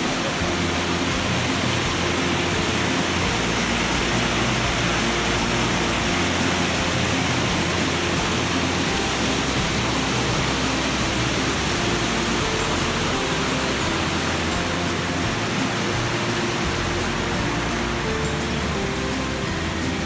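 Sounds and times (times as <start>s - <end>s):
waterfall roaring over boulders: 0.0s - 20.0s.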